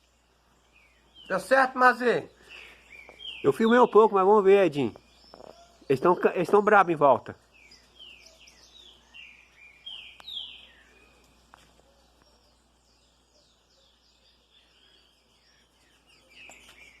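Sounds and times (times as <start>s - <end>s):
small birds alarm chirps: 0.0s - 17.0s.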